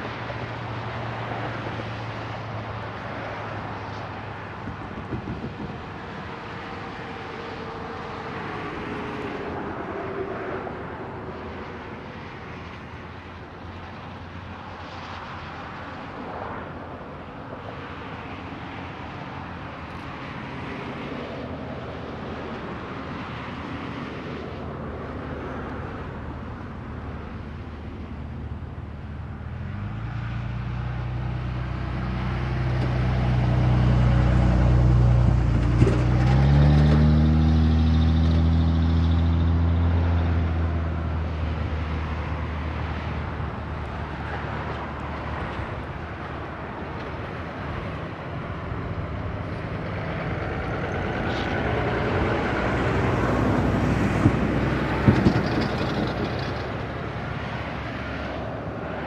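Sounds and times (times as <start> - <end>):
locomotive engine drone: 0.0 - 59.0
passing train rumble: 0.0 - 59.0.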